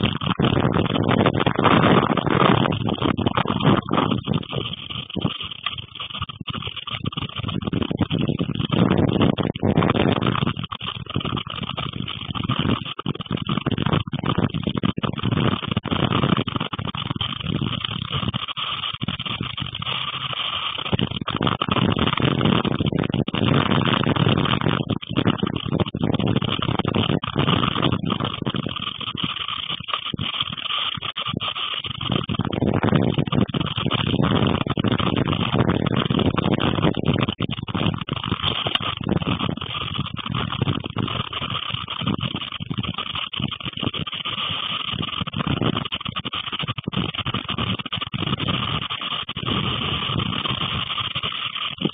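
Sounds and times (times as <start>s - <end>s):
strong gusting wind on microphone: 0.0s - 51.9s.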